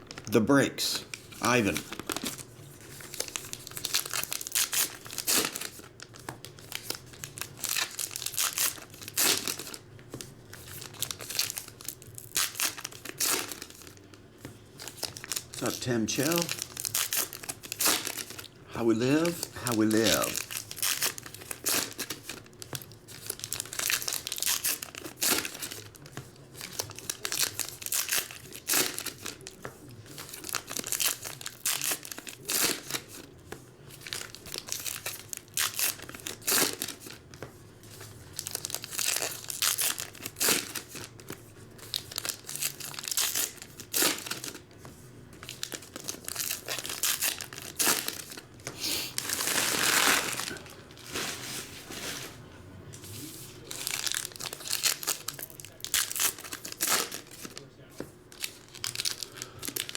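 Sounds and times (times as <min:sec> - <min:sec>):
wrappers tearing and crinkling: 0:00.1 - 0:00.4, 0:01.0 - 0:09.8, 0:10.5 - 0:14.1, 0:14.8 - 0:33.3, 0:33.9 - 0:44.7, 0:45.4 - 0:52.4, 0:53.5 - 0:59.9.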